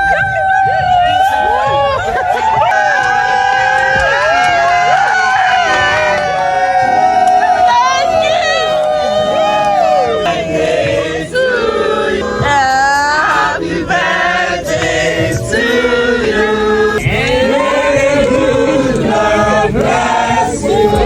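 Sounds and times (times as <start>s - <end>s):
group of voices singing: 0.0s - 21.0s
music: 0.0s - 21.0s.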